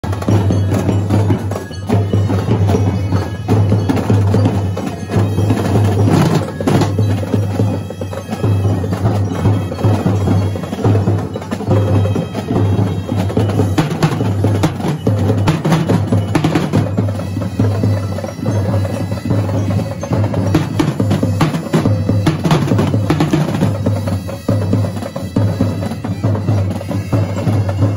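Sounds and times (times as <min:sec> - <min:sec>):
snare drums playing fast: 0:00.0 - 0:27.9.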